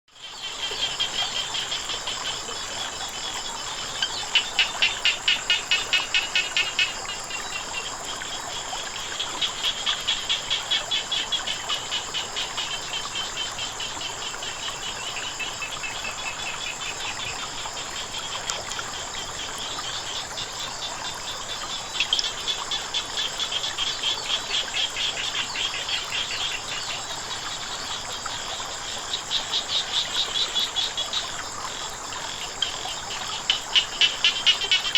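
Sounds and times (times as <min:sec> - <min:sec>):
frogs croaking: 0:00.1 - 0:34.9
running water: 0:00.2 - 0:34.9.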